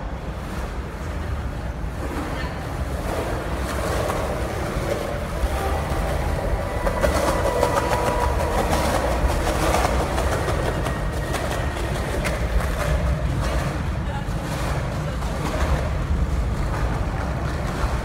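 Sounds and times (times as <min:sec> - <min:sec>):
train rumbling in tunnel: 0:00.0 - 0:18.0.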